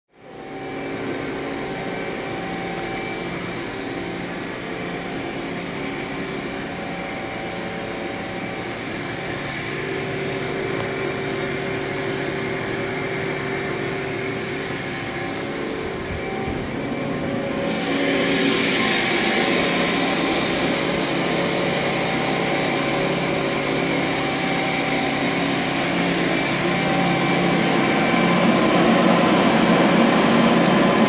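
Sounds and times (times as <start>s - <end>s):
machine hum with held tones: 0.1s - 31.0s.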